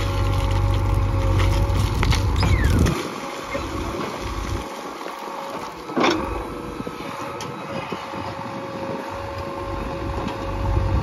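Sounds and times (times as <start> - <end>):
diesel engine under hydraulic load: 0.0 - 11.0.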